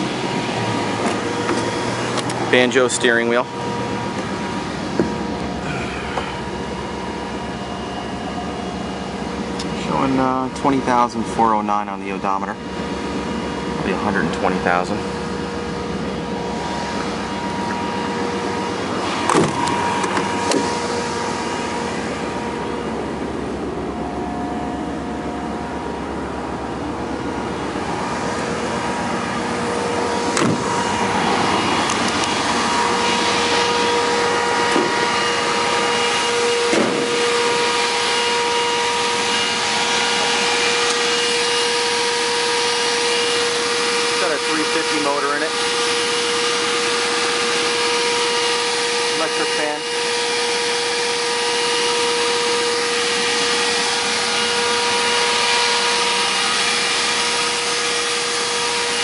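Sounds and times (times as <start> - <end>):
electric fan whirring: 0.0 - 59.0.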